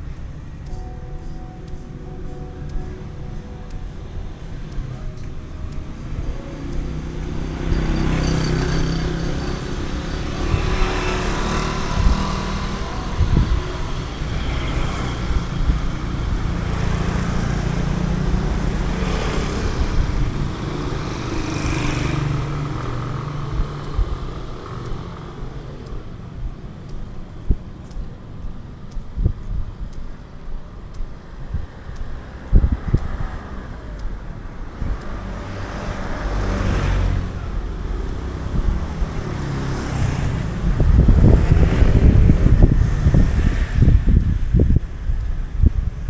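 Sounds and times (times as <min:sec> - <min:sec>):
vehicles passing: 0:00.0 - 0:46.0.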